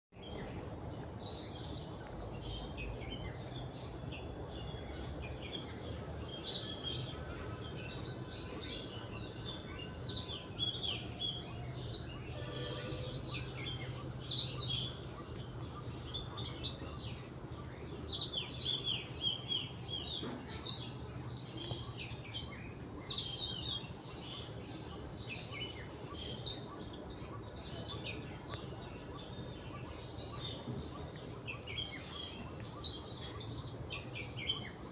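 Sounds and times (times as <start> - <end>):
birds chirping and singing: 0.2 - 34.9
steady low hum: 0.2 - 34.9.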